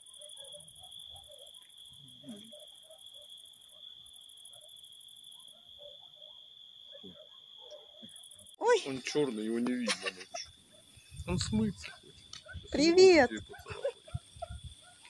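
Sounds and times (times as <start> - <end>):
crickets pulsing higher trill: 0.0 - 15.0
crickets steady high trill: 0.0 - 15.0.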